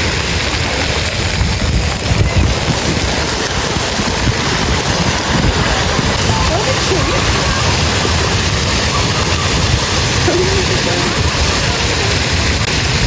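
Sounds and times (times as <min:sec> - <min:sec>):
splashing water: 0:00.0 - 0:13.0
wind buffeting microphone: 0:00.0 - 0:13.0.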